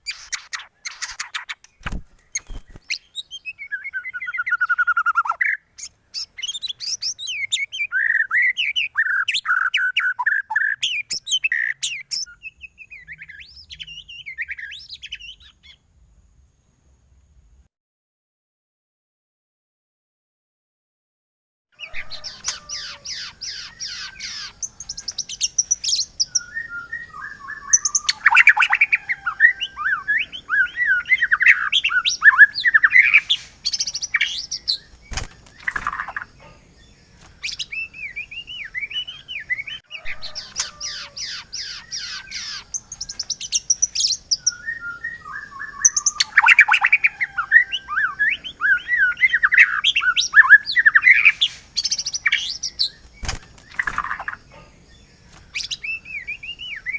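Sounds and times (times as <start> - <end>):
bird song recording: 0.0 - 17.4, 21.8 - 56.9.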